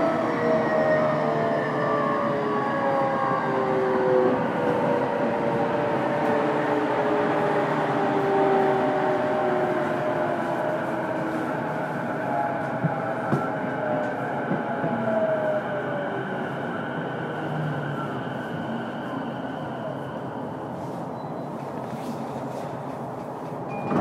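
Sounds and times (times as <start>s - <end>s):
train wheels on rail: 4.2s - 24.0s.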